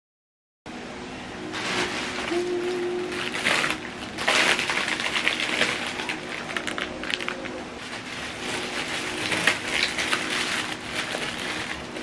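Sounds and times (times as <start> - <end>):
plastic mailer bag crinkling: 1.5 - 12.0.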